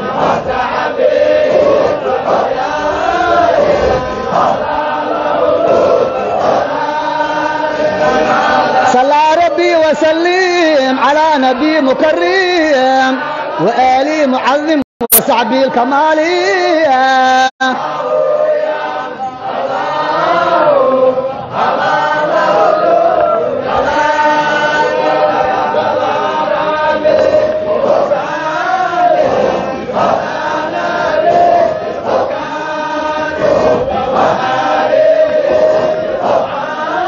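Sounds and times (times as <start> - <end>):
men chanting together: 0.0 - 37.0.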